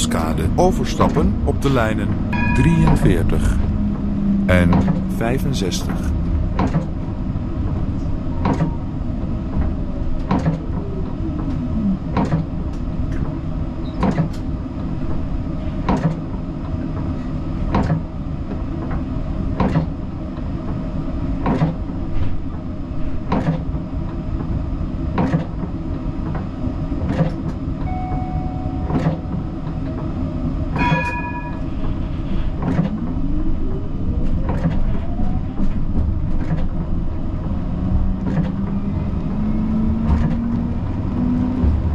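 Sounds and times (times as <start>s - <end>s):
tram motor whine: 0.0s - 41.9s
tram rumbling on track: 0.0s - 41.9s.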